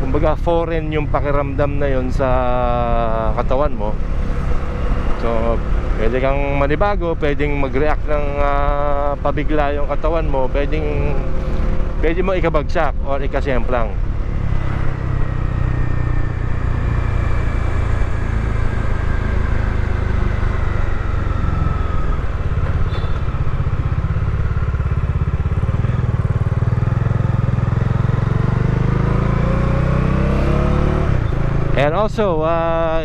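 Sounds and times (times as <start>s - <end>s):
motorcycle engine rumble: 0.0s - 33.0s.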